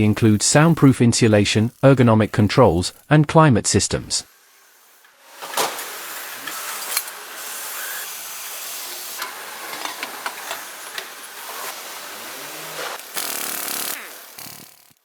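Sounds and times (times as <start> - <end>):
steady hiss: 0.0 - 14.7.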